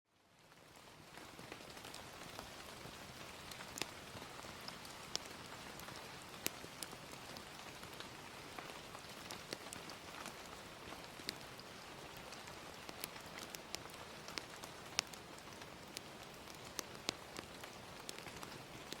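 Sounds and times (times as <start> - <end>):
gentle rain: 0.1 - 19.0
wood fire crackling: 0.4 - 19.0.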